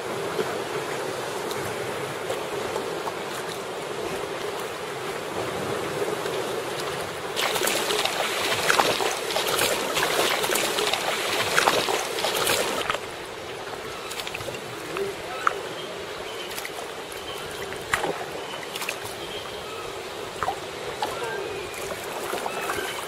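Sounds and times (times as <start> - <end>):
water sloshing around kayak: 0.0 - 23.0.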